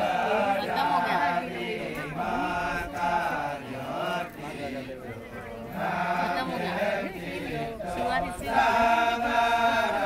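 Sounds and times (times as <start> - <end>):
men chanting: 0.0 - 10.0.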